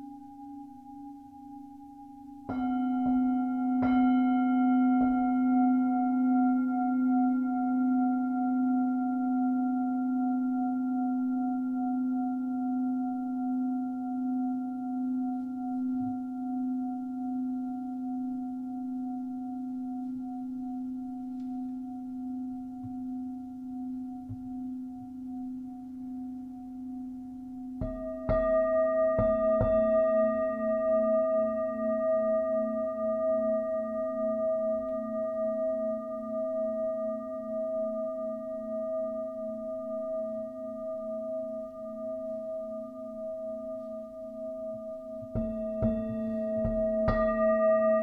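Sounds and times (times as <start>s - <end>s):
singing bowl ringing: 0.0s - 48.0s.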